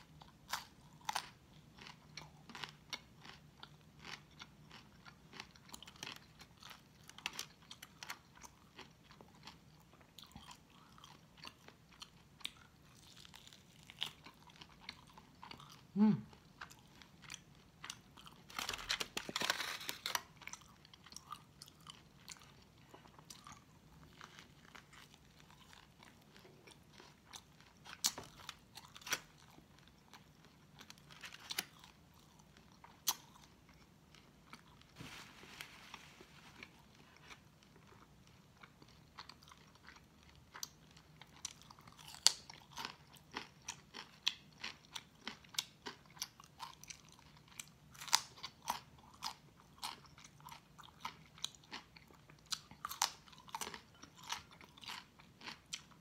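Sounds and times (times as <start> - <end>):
chewing and crunching: 0.0 - 35.0, 36.6 - 56.0.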